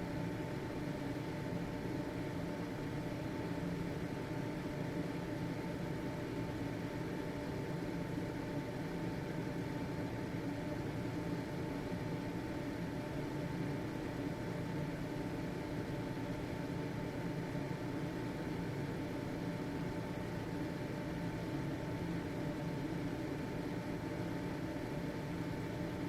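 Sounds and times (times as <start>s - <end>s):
ventilation fan humming: 0.0s - 26.0s.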